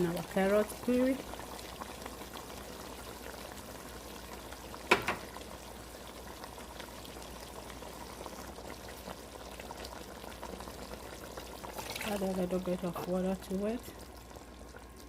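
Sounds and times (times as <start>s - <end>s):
soup simmering with bubbling hiss: 0.0s - 15.0s.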